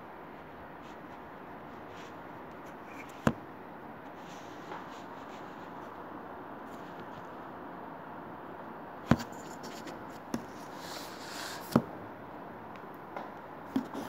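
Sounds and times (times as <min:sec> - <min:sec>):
low room hiss: 0:00.0 - 0:14.0.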